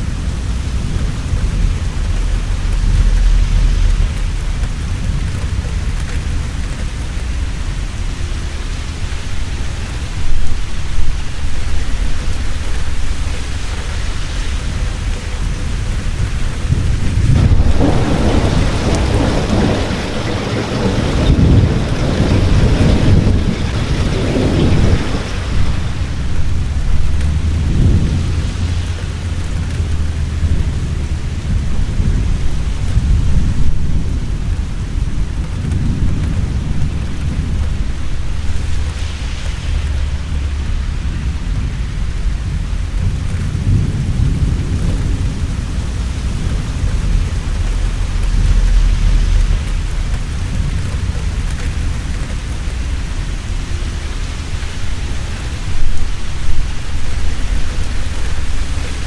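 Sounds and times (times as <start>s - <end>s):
heavy rain falling: 0.0s - 59.0s
thunder rumbling: 0.0s - 59.0s.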